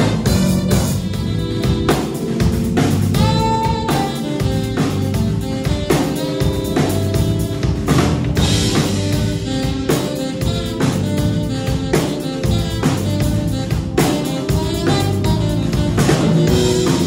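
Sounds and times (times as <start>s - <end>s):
drum kit groove: 0.0s - 17.0s
electric bass: 0.0s - 17.0s
keyboard: 0.0s - 17.0s
saxophone: 0.0s - 17.0s.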